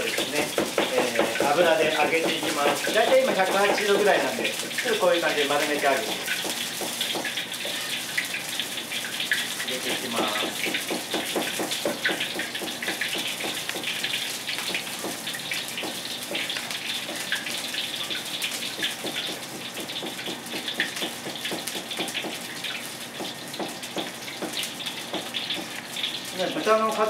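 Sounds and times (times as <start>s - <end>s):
meat deep-frying in oil: 0.0s - 27.0s.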